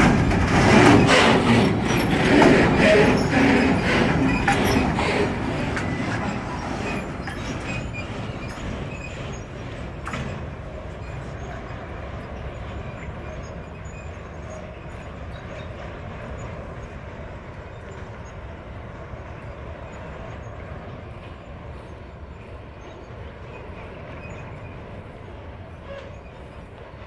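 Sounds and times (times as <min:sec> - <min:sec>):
freight train wagons rumbling: 0:00.0 - 0:27.0.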